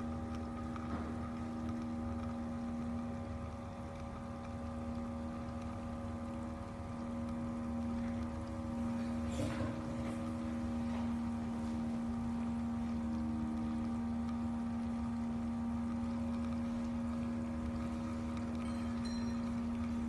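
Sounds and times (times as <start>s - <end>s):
coffee maker pump humming: 0.0s - 20.0s
faint clicks: 0.2s - 9.3s, 11.0s - 20.0s.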